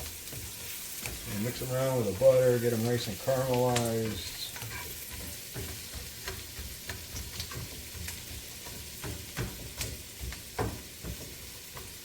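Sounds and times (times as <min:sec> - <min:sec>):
onions sizzling in a pan: 0:00.0 - 0:12.0
utensil scraping a pan: 0:00.0 - 0:12.0.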